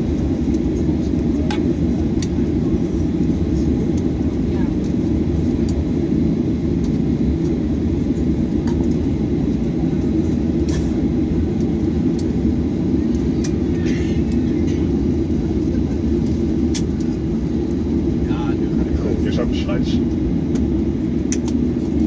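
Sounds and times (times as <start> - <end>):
aircraft engines idling hum: 0.0 - 22.0.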